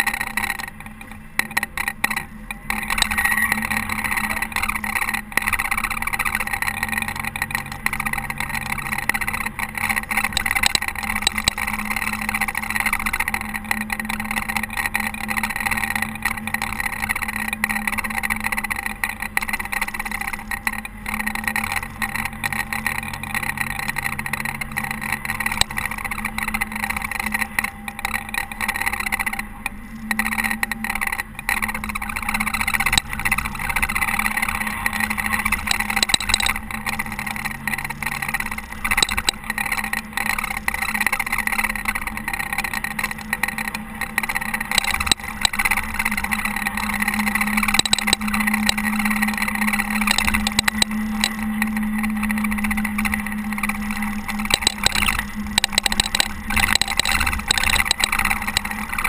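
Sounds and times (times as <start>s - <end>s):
diesel engine running: 0.0s - 59.0s
knocks and rattles: 0.0s - 59.0s.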